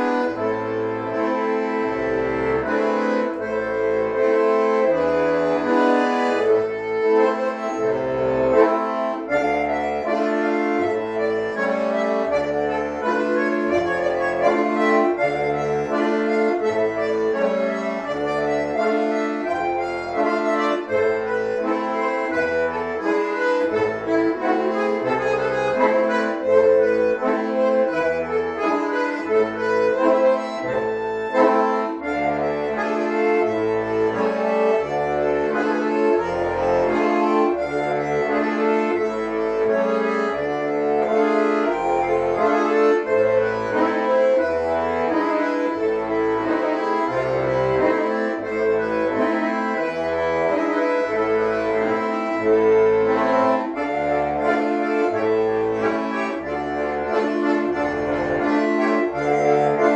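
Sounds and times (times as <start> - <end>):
button accordions playing folk tune: 0.0 - 59.9.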